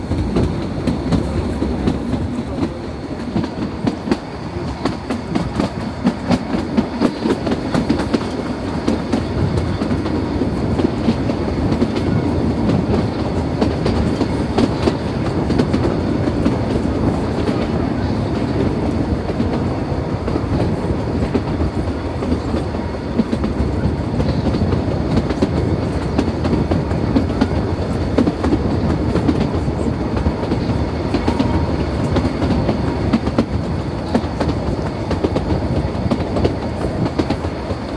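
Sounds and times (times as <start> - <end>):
train carriage clattering and rattling: 0.0 - 37.9
wheels rumbling on rail: 0.0 - 37.9.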